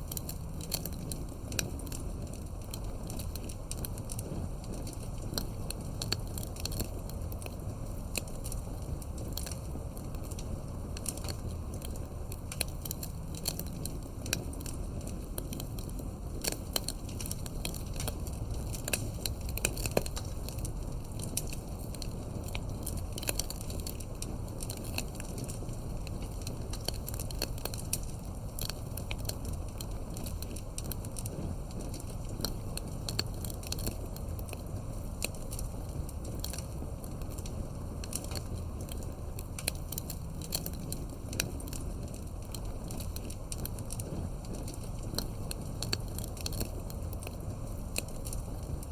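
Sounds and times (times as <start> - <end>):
campfire crackling and popping: 0.0 - 48.9
low rush of flames: 0.0 - 48.9.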